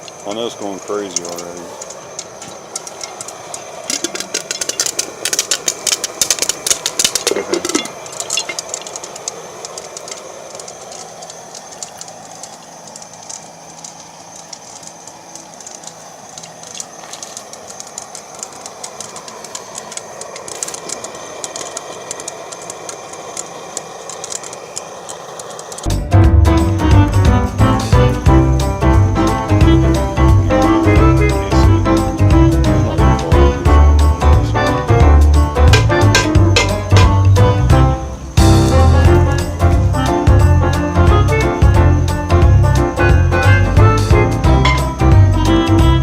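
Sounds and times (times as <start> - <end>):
popcorn popping: 0.0 - 25.9, 27.0 - 46.0
gas burner rushing: 0.0 - 46.0.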